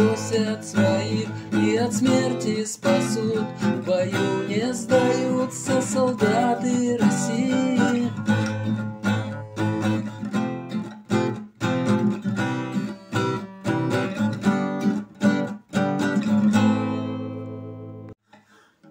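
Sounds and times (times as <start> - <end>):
acoustic guitar strumming: 0.0 - 18.1.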